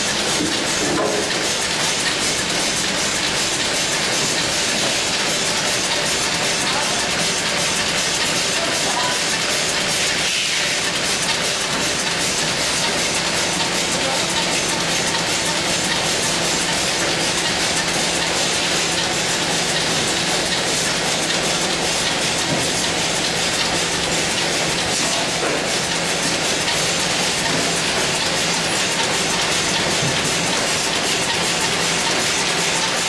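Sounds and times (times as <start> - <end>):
cartoning machine clattering: 0.0 - 33.0.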